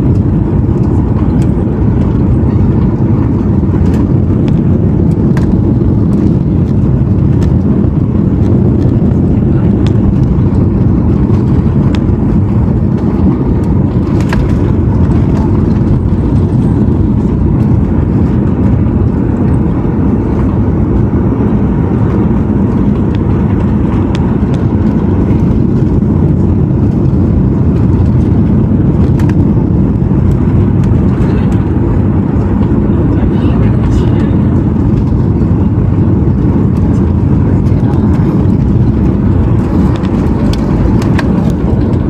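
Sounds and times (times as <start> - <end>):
airplane engines and airflow rumble: 0.0 - 42.0.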